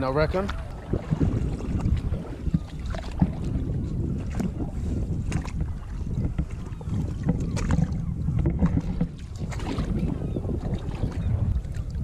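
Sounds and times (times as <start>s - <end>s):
seawater splashing: 0.0s - 12.0s
wind rumbling on microphone: 0.0s - 12.0s.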